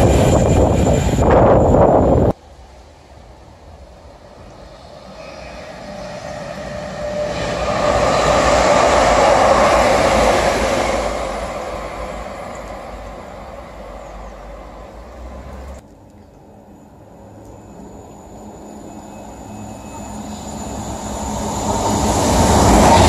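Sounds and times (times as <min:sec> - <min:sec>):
train passing with wheel noise: 0:00.0 - 0:23.0.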